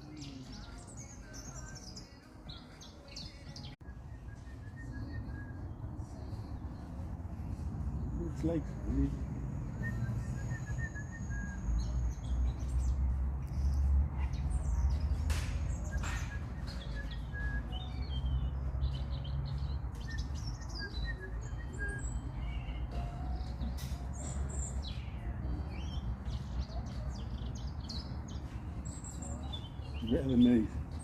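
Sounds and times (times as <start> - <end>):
robin singing: 0.0 - 31.0.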